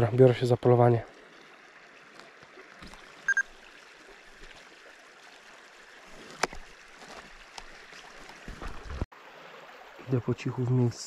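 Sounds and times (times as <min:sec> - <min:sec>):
small river flowing: 0:00.0 - 0:11.0.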